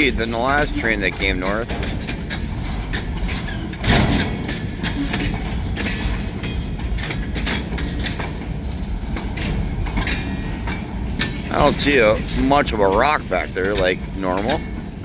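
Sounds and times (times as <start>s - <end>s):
freight train rumbling past: 0.0s - 15.0s
wheels clicking over rail joints: 0.0s - 15.0s.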